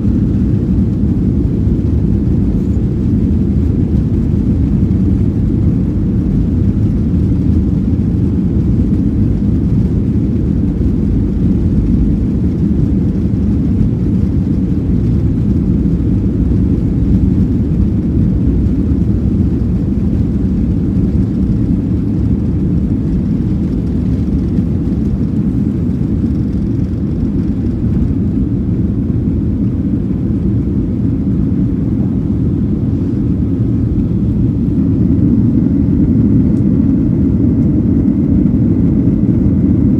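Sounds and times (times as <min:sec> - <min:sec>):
airplane engines rumbling: 0:00.0 - 0:39.9.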